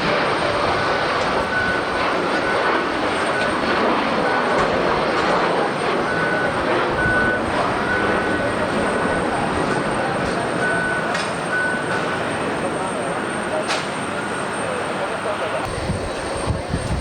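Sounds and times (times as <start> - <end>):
jet airliner passing: 0.0 - 17.0.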